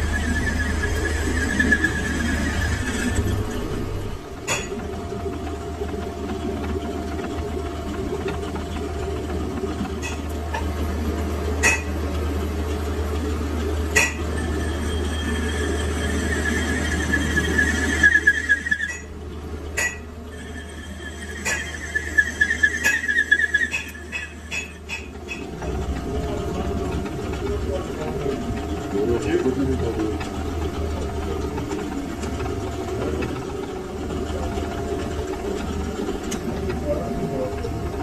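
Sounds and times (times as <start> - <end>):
high whine of turning: 0.0 - 38.0
metal lathe humming and rumbling: 0.0 - 38.0.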